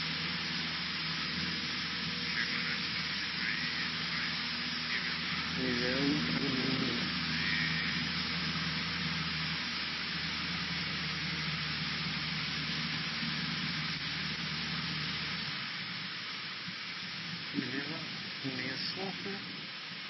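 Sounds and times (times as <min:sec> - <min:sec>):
airplane engine droning: 0:00.0 - 0:20.0
strong steady hiss: 0:00.0 - 0:20.0.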